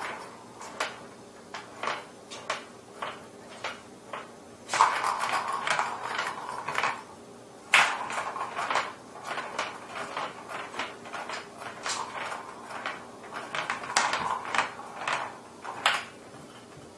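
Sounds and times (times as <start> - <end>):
plastic ball rattling in toy track: 1.6 - 7.0, 7.7 - 16.2.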